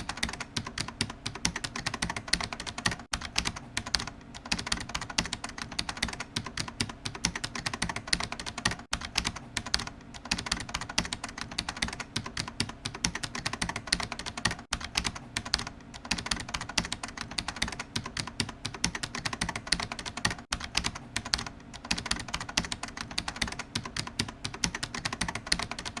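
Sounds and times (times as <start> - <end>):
rapid keyboard typing: 0.0 - 26.0.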